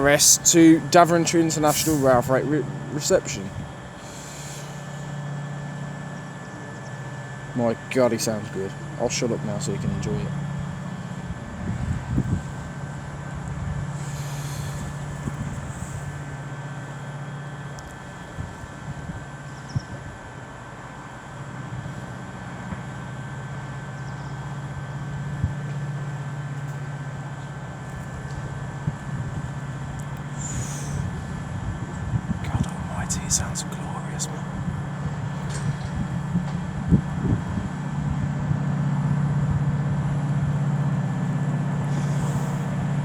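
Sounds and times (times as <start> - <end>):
locomotive engine droning: 0.0 - 43.0.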